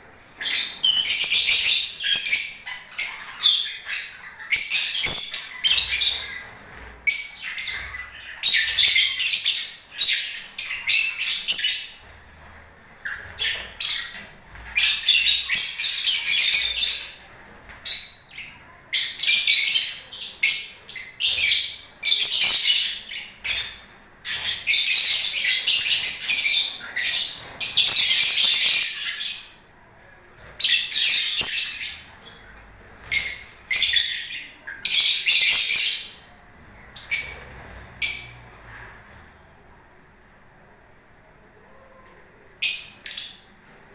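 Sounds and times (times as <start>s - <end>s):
lovebirds squawking and chirping: 0.3s - 29.6s, 30.4s - 38.5s.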